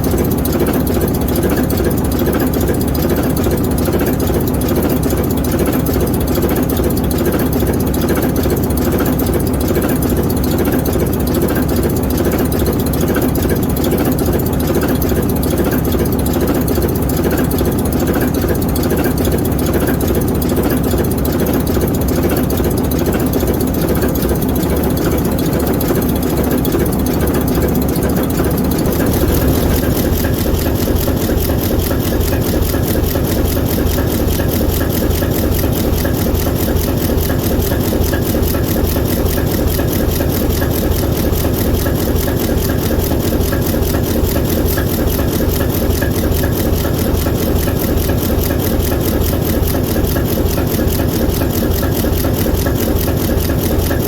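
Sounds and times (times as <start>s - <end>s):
locomotive diesel engine running: 0.0s - 54.0s.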